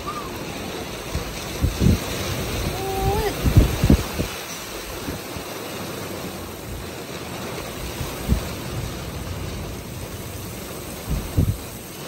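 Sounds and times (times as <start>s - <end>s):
pouring rain: 0.0s - 12.0s.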